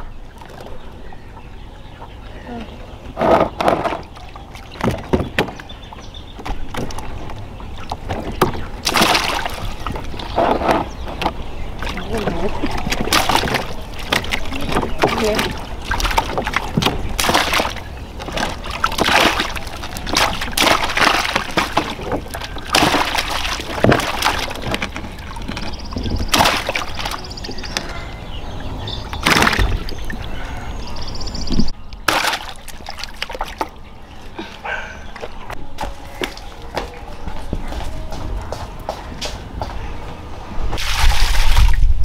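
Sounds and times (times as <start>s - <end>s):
water splashing and sloshing: 0.0s - 39.5s, 40.6s - 42.0s.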